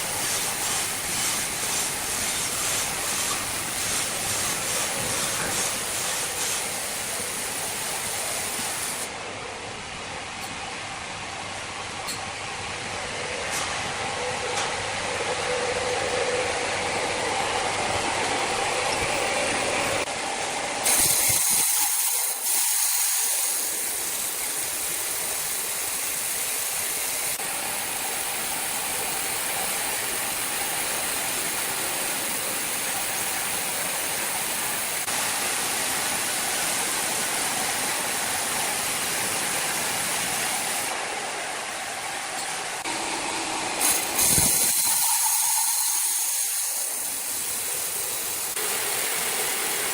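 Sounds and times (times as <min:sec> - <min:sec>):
sawmill machinery running: 0:00.0 - 0:49.9.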